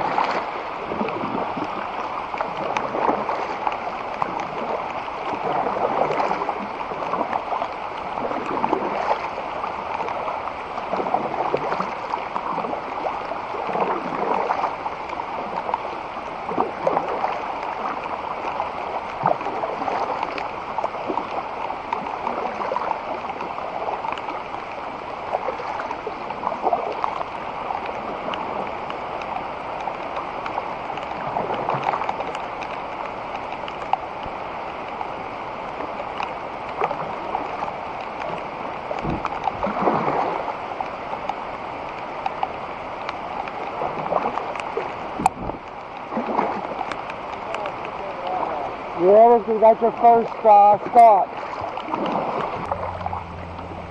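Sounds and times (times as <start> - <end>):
water gurgling around kayak: 0.0 - 53.9.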